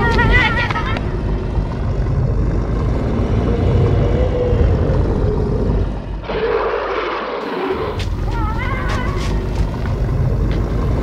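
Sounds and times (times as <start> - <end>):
low rumbling drone: 0.0 - 11.0
harsh werewolf growl: 1.1 - 11.0.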